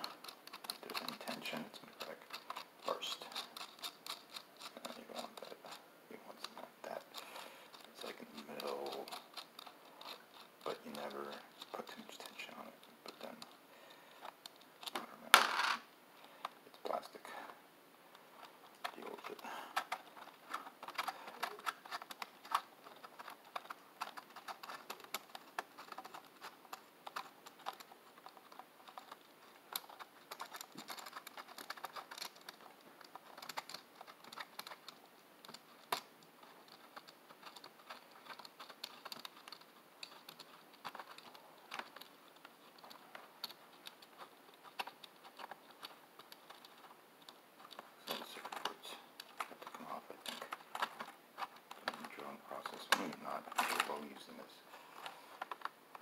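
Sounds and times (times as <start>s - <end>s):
small screws and nuts clicking: 0.0s - 5.8s, 6.4s - 17.2s, 18.1s - 54.1s.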